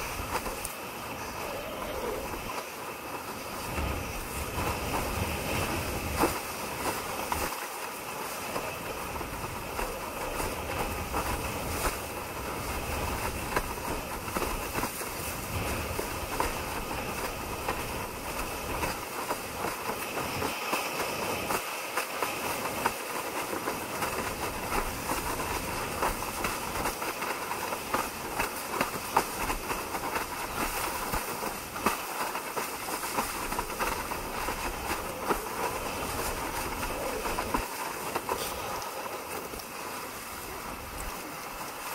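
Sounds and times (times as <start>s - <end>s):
rush of water and spray: 0.0s - 41.9s.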